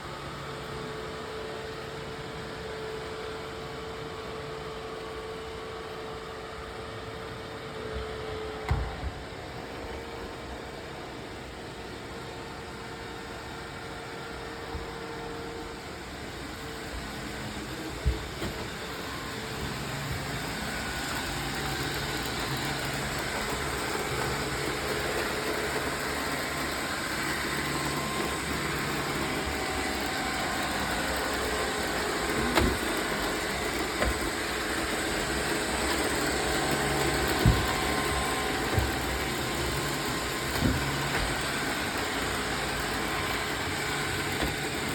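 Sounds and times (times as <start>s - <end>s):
robot vacuum motor and brush whir: 0.0s - 44.9s.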